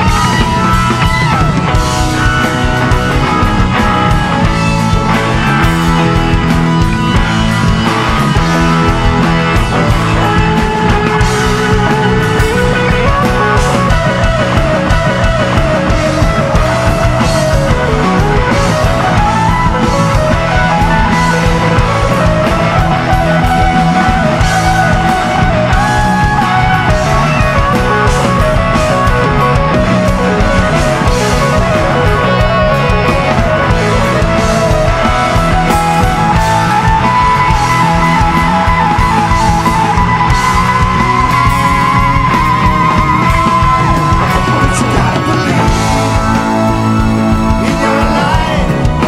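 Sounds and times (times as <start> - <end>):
bass guitar: 0.0 - 49.0
drums: 0.0 - 49.0
electric guitar lead: 0.0 - 49.0
keyboards: 0.0 - 49.0.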